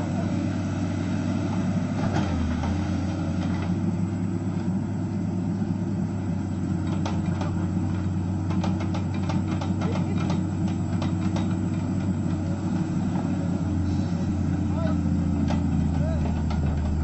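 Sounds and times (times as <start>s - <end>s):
excavator engine droning: 0.0s - 17.0s.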